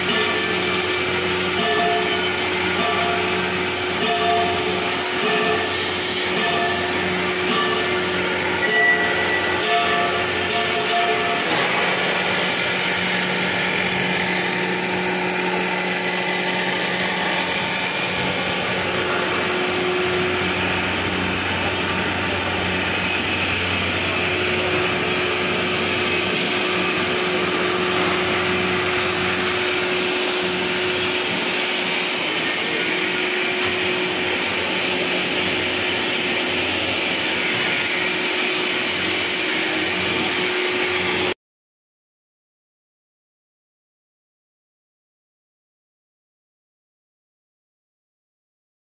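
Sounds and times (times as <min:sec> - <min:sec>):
machine motor humming: 0:00.1 - 0:41.3.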